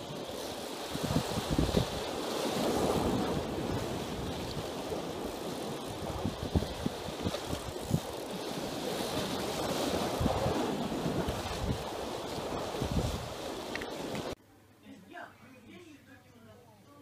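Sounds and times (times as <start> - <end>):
wind buffeting the microphone: 0.0 - 14.4.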